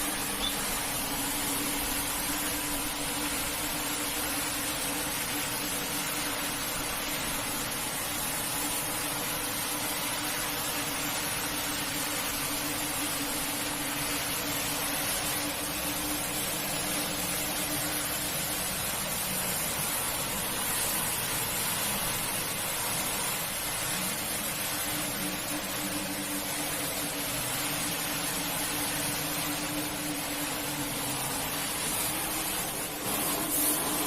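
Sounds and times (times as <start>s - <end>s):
carpet cleaning machine running: 0.0s - 34.0s.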